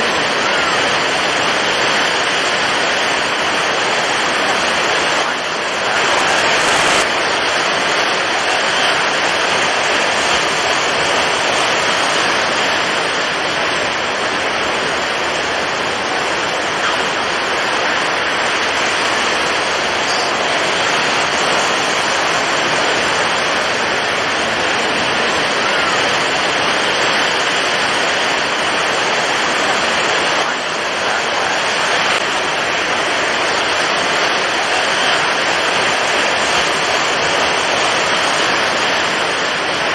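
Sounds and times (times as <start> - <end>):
heavy waves: 0.0 - 39.9
strong wind: 0.0 - 39.9.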